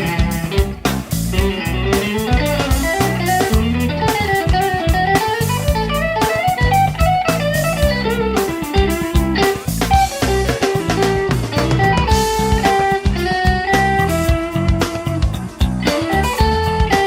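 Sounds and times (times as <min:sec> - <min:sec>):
electric guitar melodic line: 0:00.0 - 0:17.0.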